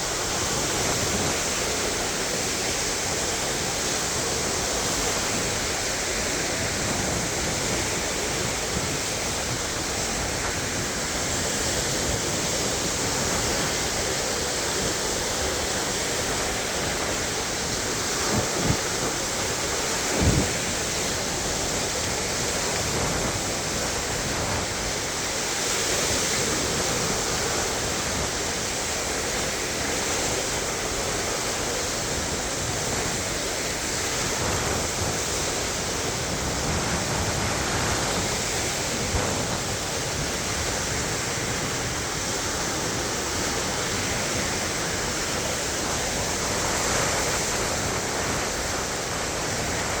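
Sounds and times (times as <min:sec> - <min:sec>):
waves washing onto shore: 0:00.0 - 0:50.0.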